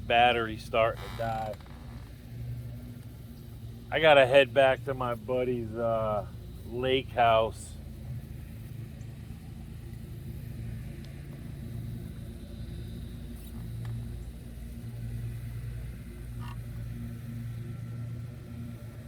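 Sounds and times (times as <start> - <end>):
electric boat motor humming: 0.0 - 19.0.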